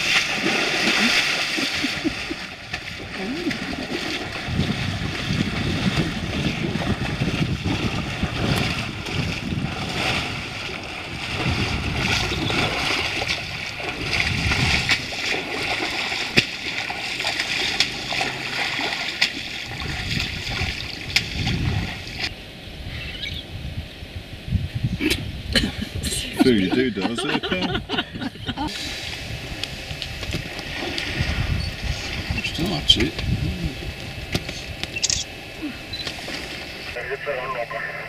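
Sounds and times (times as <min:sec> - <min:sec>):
water splashing and sloshing: 0:00.0 - 0:22.4, 0:26.5 - 0:37.0.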